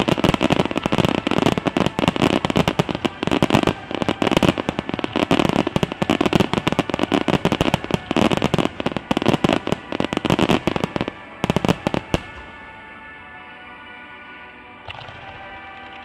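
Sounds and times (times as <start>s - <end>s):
fireworks bangs and crackling: 0.0s - 12.8s
music: 0.0s - 16.0s.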